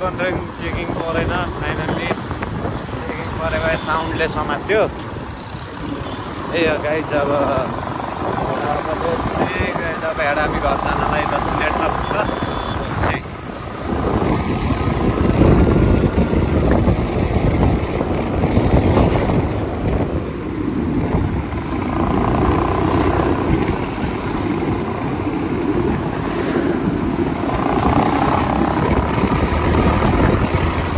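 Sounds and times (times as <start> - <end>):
road and wind noise: 0.0 - 30.9
motorcycle engine running: 4.9 - 30.9.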